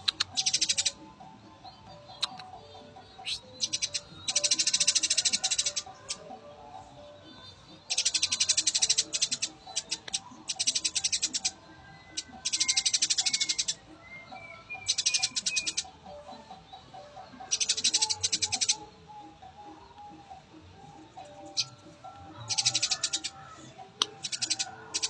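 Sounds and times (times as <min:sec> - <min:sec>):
sparrows chirping: 0:00.0 - 0:25.0.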